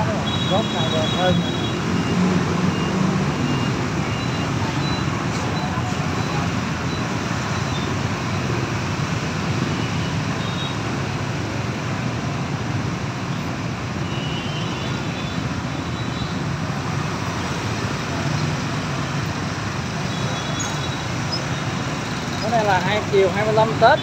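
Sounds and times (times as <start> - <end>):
motorbike engines running: 0.0 - 14.0, 15.1 - 24.0.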